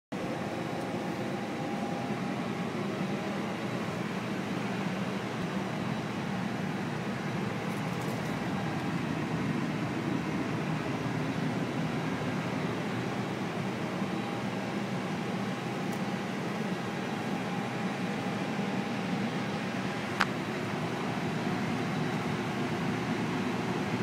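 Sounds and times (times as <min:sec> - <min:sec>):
cooling fans whooshing hum: 0:00.1 - 0:24.0
faint steady whine: 0:00.2 - 0:24.0.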